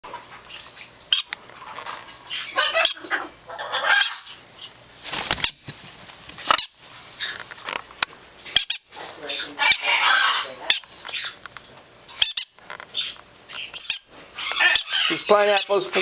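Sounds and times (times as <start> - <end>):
baby parrots squawking: 0.5 - 5.6, 6.5 - 7.4, 8.4 - 11.4, 12.1 - 16.0.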